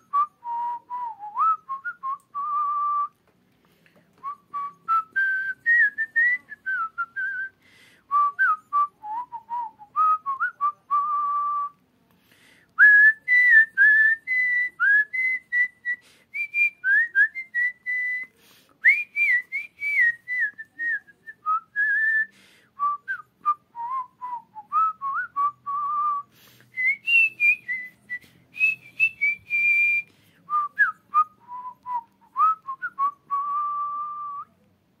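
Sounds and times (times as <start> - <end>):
man whistling a melody: 0.0 - 3.2, 4.2 - 11.8, 12.7 - 34.6.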